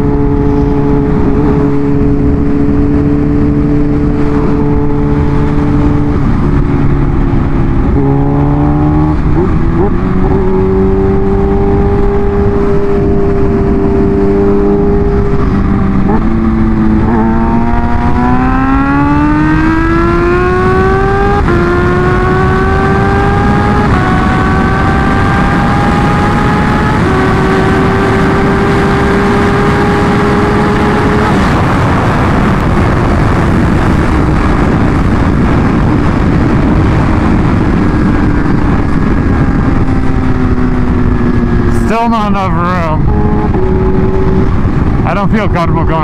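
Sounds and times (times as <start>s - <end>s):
heavy wind rush: 0.0s - 46.0s
motorcycle engine at full throttle: 0.0s - 46.0s.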